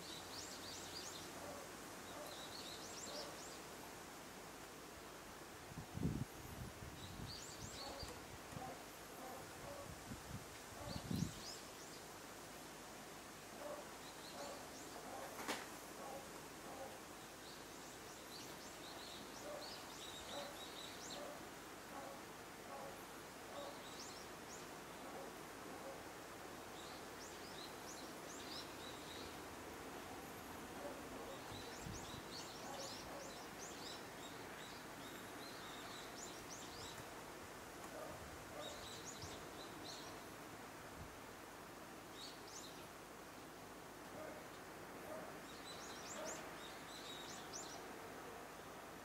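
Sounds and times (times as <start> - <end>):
small birds chirping: 0.0 - 4.0, 6.0 - 9.9, 13.6 - 40.5, 44.1 - 49.0
faint outdoor hiss: 0.0 - 49.0.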